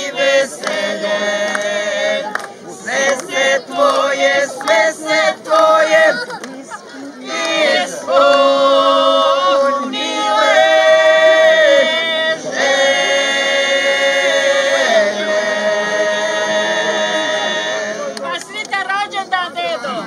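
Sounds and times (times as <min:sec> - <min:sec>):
group singing a cappella: 0:00.0 - 0:18.4.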